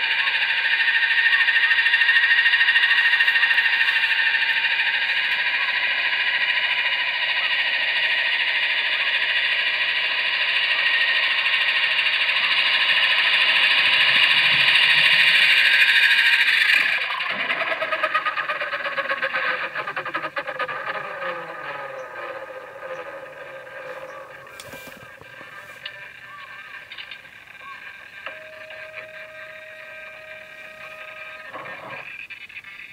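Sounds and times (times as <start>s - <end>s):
toy helicopter rotors whining: 0.0s - 32.9s.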